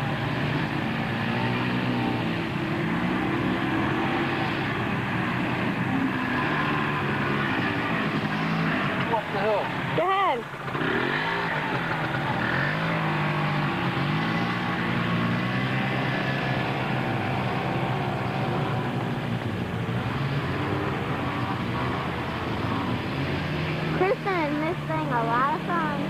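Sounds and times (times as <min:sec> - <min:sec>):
quad engines revving: 0:00.0 - 0:26.0.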